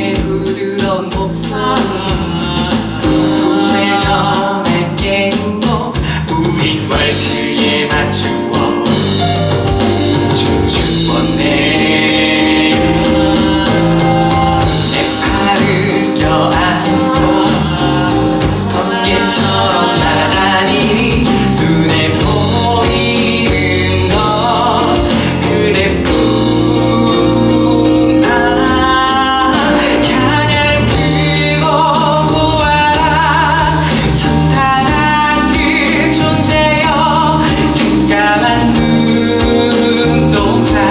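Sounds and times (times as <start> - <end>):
instrumental accompaniment: 0.0 - 40.9
voices singing with vibrato: 0.0 - 40.9.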